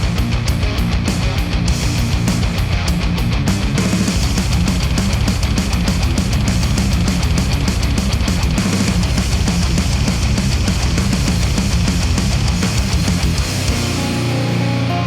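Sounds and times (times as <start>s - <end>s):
heavy rock music: 0.0s - 15.0s.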